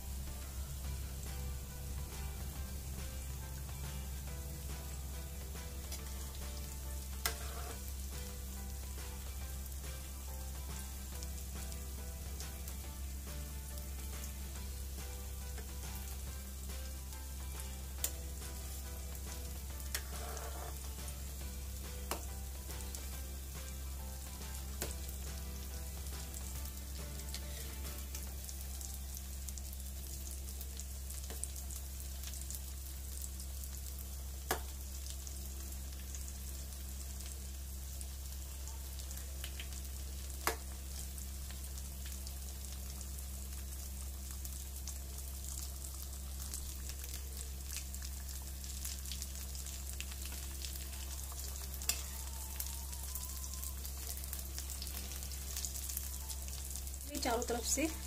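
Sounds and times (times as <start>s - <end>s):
food deep-frying in oil: 0.0s - 58.0s.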